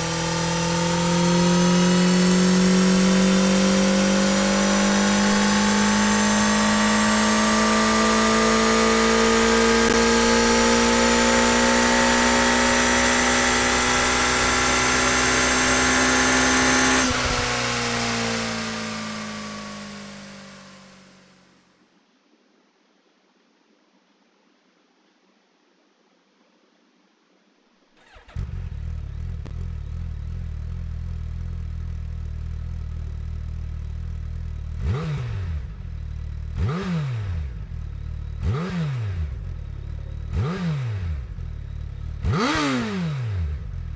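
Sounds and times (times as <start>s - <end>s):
motorcycle engine accelerating: 0.0s - 21.6s, 28.0s - 43.9s.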